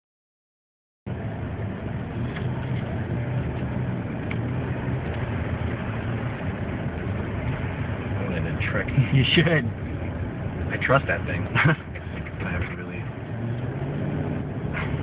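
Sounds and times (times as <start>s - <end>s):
vehicle engine and road noise: 1.1s - 15.0s.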